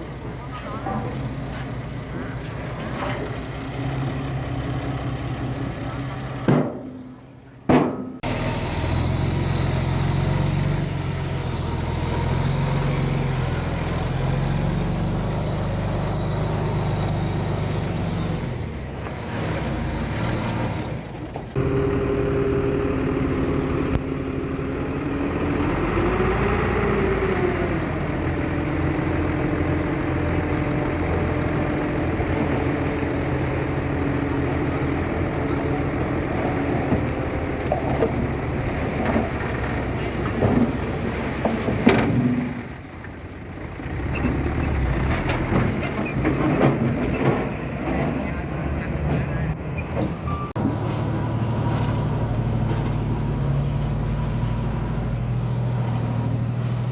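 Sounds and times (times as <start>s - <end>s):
diesel engines of earthmoving machinery: 0.0s - 56.9s.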